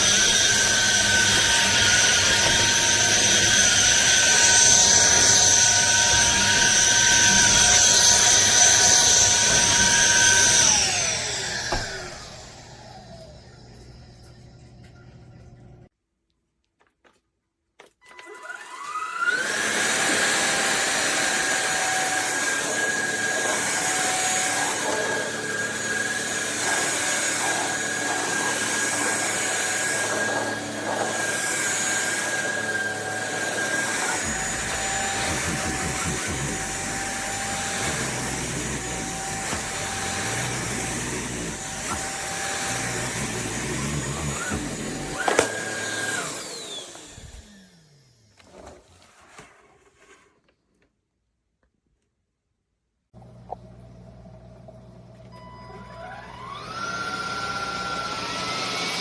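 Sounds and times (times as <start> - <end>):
vacuum motor whining: 0.0 - 15.9, 18.2 - 48.9, 53.2 - 59.0.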